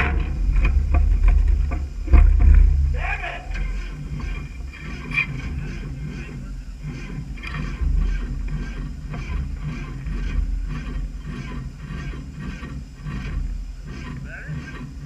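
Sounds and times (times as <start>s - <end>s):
car engine rumbling: 0.0s - 15.0s
engine rattle: 0.0s - 15.0s.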